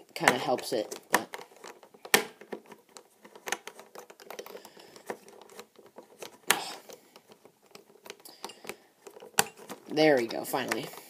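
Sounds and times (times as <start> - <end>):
plastic puzzle cube clicking: 0.3 - 11.0.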